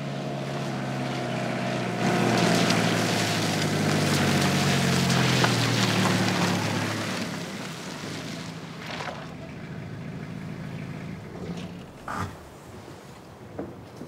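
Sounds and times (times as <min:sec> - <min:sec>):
pickup truck engine driving off: 0:00.0 - 0:12.9.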